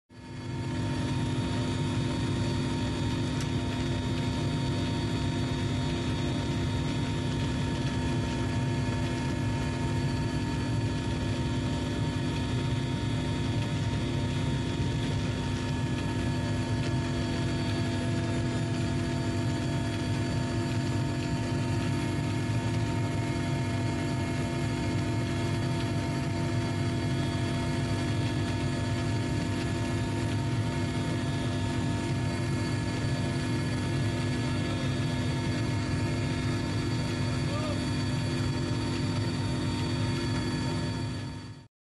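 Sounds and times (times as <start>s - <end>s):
aircraft engine drone: 0.2s - 41.7s.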